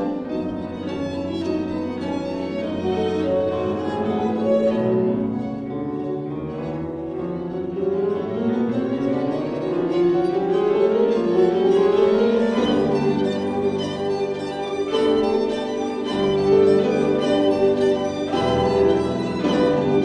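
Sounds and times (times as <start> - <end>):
classical piano trio: 0.0 - 20.0.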